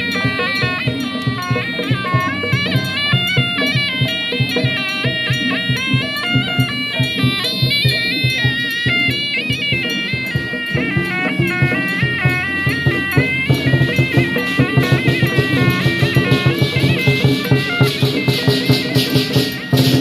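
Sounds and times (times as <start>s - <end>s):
fast steady drumbeats: 0.0s - 20.0s
shrill suona melody: 0.0s - 20.0s.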